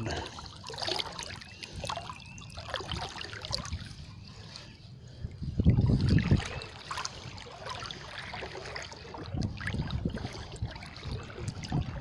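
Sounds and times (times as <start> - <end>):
floodwater sloshing and splashing: 0.0 - 12.0.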